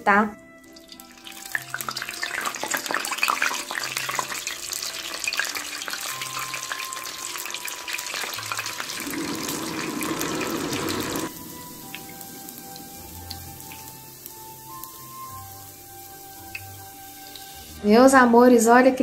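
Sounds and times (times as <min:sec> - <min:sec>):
food deep-frying in oil: 0:00.6 - 0:17.8.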